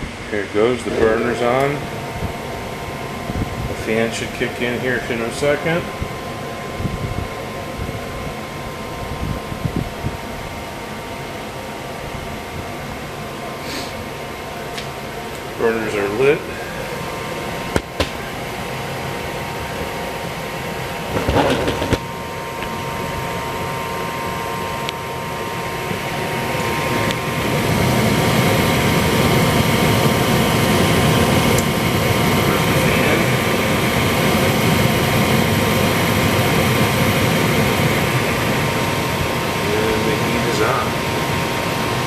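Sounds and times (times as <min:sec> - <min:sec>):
blower fan rushing air: 0:00.0 - 0:42.0
furnace burners humming: 0:00.0 - 0:42.0.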